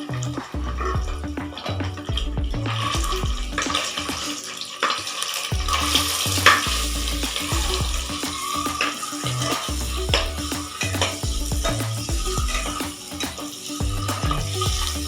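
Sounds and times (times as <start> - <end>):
background music with bass: 0.0 - 4.4, 5.5 - 15.0.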